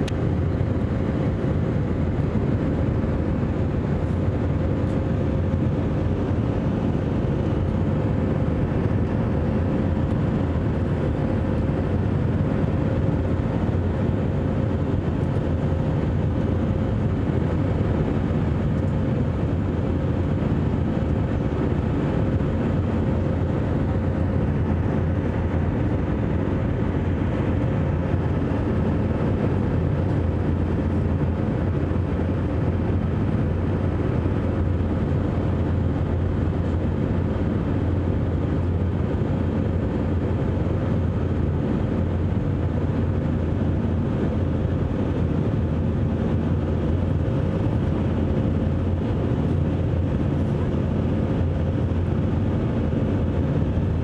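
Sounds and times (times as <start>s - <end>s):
jet engines and airflow rumble: 0.0s - 54.0s.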